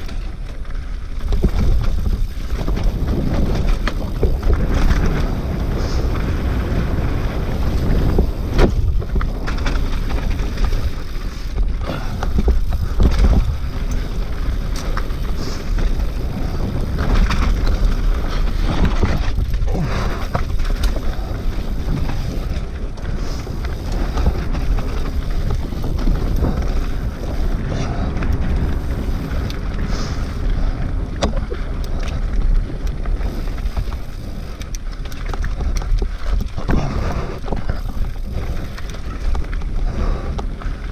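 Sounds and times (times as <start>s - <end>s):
bike knocking and rattling on rocks: 0.0s - 40.9s
tyres rumbling on dirt and stones: 0.0s - 40.9s
wind buffeting microphone: 0.0s - 40.9s.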